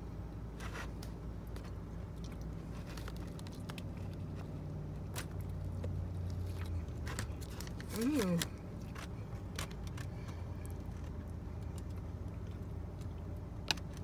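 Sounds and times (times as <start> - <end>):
low hum in car cabin: 0.0 - 14.0
clicks and crackles from eating: 0.7 - 14.0.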